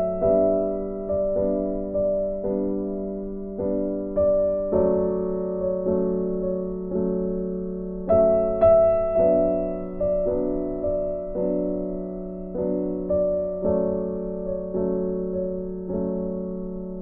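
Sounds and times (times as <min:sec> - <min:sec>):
slow piano-like keyboard melody: 0:00.0 - 0:17.0.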